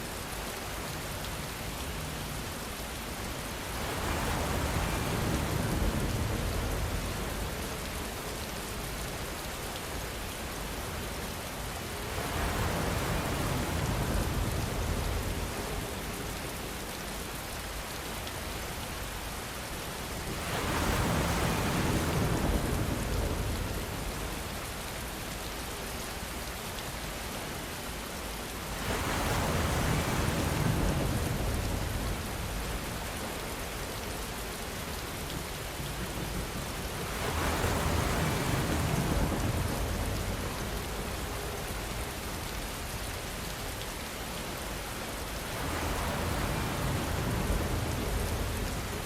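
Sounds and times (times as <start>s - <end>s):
steady rainfall hiss: 0.0s - 49.0s.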